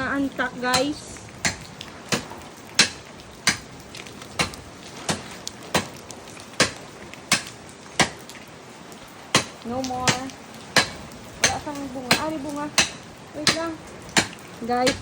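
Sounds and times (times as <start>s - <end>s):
blade chopping tree branches: 0.7s - 8.3s, 9.3s - 15.0s.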